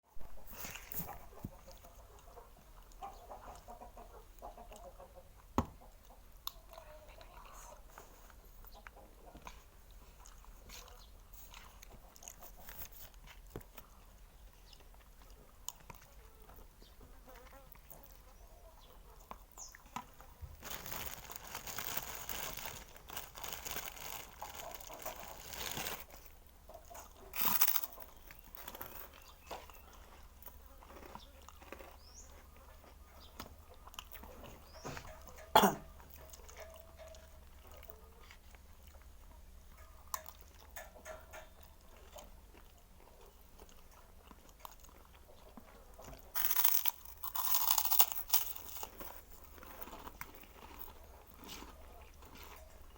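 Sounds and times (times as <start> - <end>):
crunchy chewing: 0.5 - 52.9.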